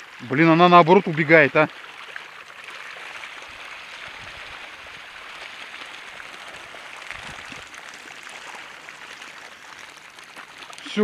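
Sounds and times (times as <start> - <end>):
water splashing and churning: 0.0 - 11.0.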